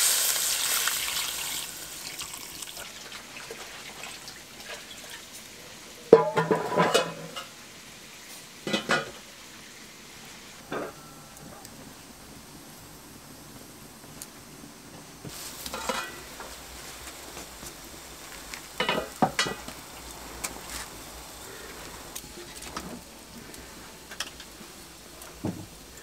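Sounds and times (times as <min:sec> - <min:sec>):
low bubbling hiss: 0:00.0 - 0:26.0.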